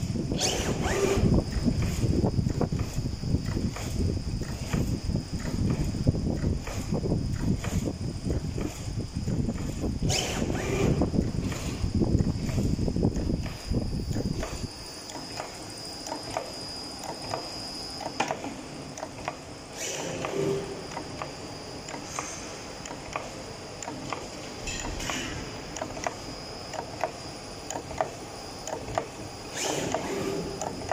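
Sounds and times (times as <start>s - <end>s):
machine whine: 0.0s - 30.9s
machine mechanism clicking: 0.3s - 30.9s.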